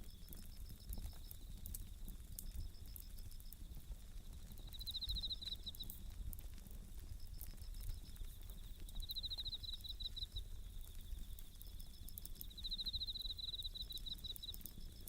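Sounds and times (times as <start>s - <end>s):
crickets chirping: 0.0s - 15.0s
wood fire crackling: 0.0s - 15.0s.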